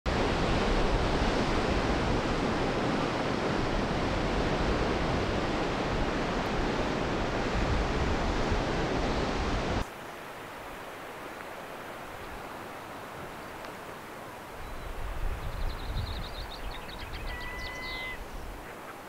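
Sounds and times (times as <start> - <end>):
ocean surf breaking on rocks: 0.1 - 15.4.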